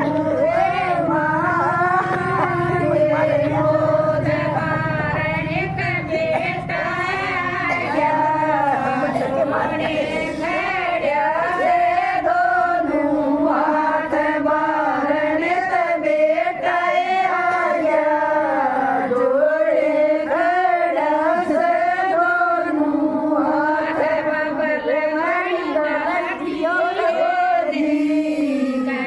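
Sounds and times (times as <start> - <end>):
women singing together: 0.0 - 29.0.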